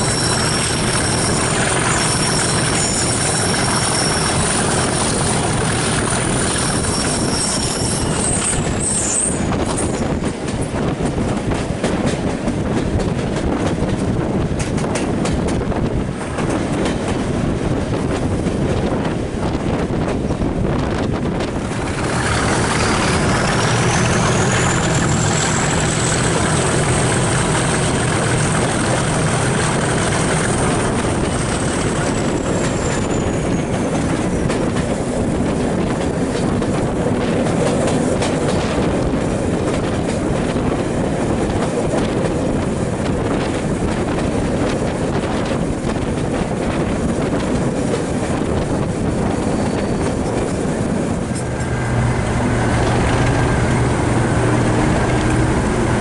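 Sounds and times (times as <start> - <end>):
diesel locomotive engine working hard: 0.0 - 56.0
rushing air: 0.0 - 56.0
wheel-on-rail noise: 0.0 - 56.0.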